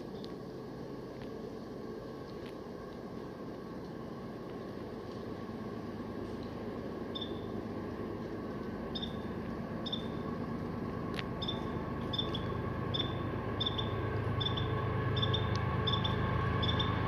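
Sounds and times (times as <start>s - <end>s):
freight train rumble: 0.0s - 17.0s.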